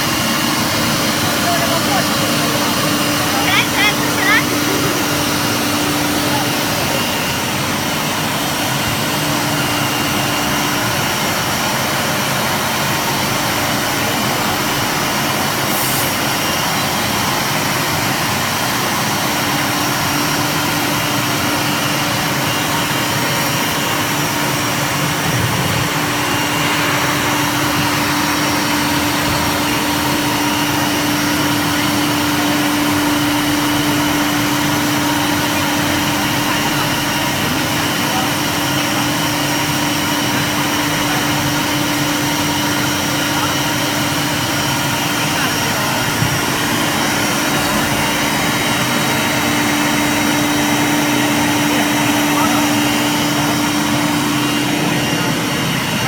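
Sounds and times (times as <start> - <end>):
router spindle whine: 0.0 - 56.0
wood machining noise: 0.0 - 56.0.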